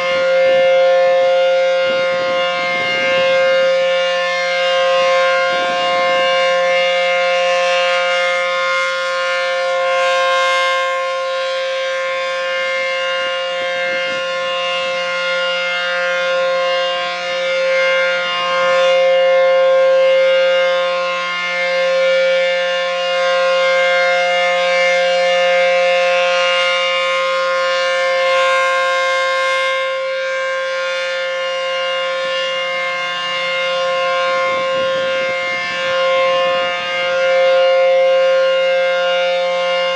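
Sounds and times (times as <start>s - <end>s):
outdoor warning siren alert tone: 0.0s - 39.9s.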